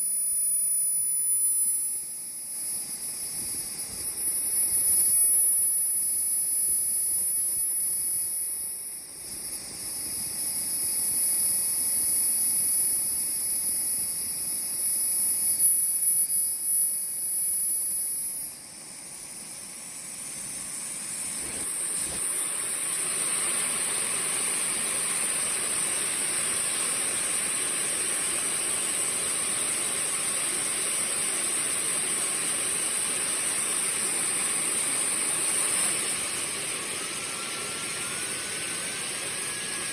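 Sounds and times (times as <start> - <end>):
model turbojet engine whining: 0.0 - 39.9.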